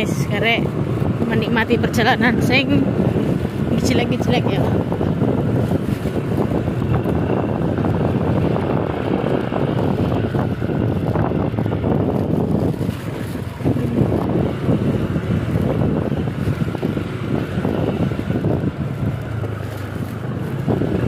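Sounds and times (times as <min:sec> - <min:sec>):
motorcycle engine running: 0:00.0 - 0:21.0
wind rumbling on microphone: 0:00.0 - 0:21.0.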